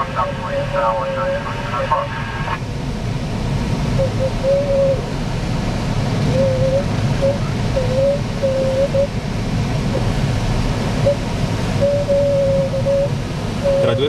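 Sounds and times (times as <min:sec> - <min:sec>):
airflow rushing around cockpit: 0:00.0 - 0:14.0.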